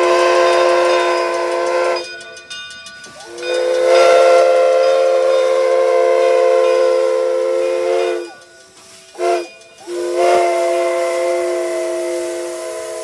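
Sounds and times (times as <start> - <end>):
locomotive steam whistle blasts: 0.0 - 2.4, 3.0 - 13.0.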